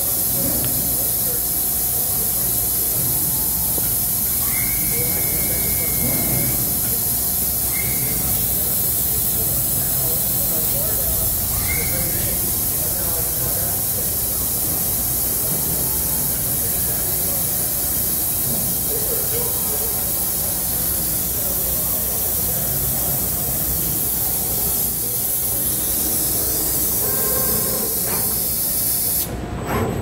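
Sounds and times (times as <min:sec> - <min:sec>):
machine shop hiss: 0:00.0 - 0:29.4.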